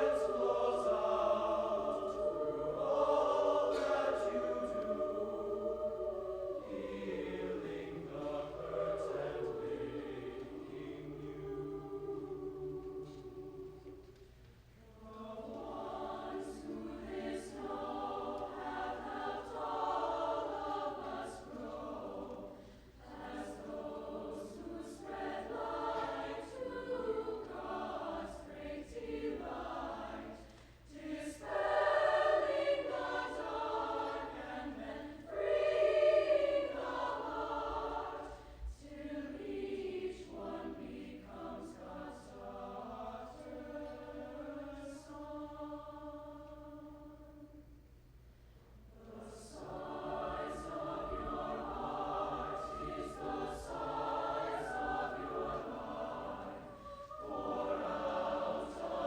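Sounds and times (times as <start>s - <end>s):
choir singing: 0.0s - 47.8s, 48.7s - 59.0s.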